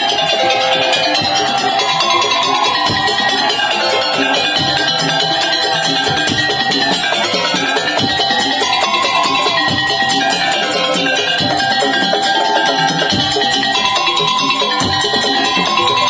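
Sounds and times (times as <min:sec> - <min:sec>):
percussion ensemble music: 0:00.0 - 0:16.0.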